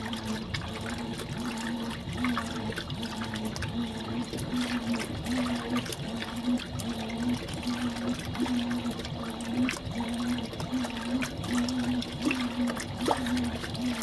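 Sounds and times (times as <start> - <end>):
wash water sloshing: 0.0 - 14.0
washing machine motor humming: 0.0 - 14.0.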